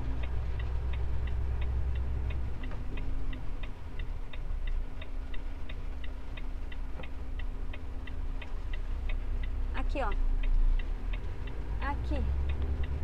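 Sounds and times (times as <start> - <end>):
truck engine rumble: 0.0 - 13.0
turn signal ticking: 0.0 - 13.0.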